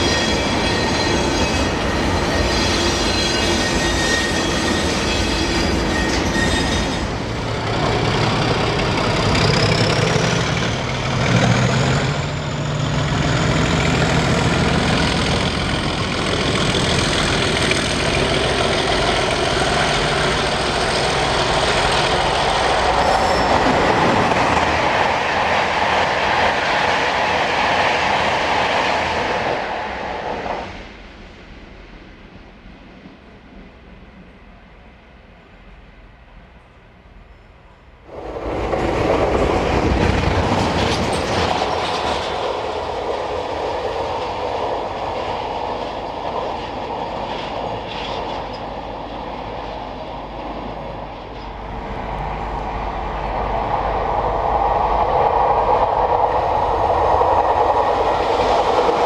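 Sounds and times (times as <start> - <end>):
high train squeal: 0.0 - 31.0, 35.4 - 59.0
train passing on track: 0.0 - 59.0.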